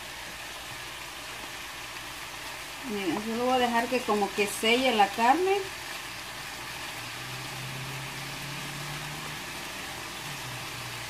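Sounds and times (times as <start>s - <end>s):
ribs sizzling in a frying pan: 0.0s - 11.0s.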